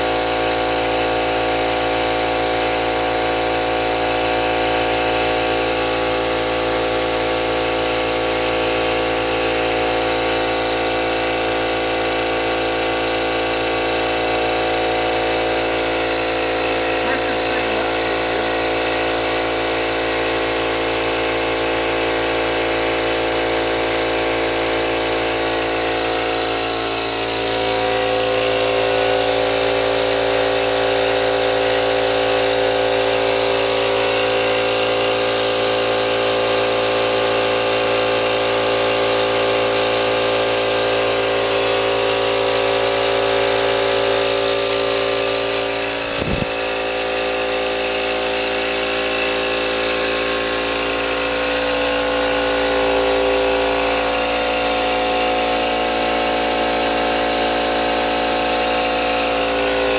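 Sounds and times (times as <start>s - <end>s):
small engine mechanical whine: 0.0s - 59.9s.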